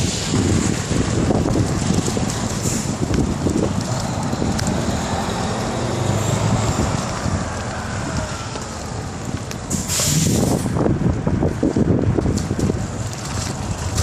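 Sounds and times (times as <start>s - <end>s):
road traffic passing: 0.0s - 14.0s
wind rumbling on microphone: 0.0s - 14.0s.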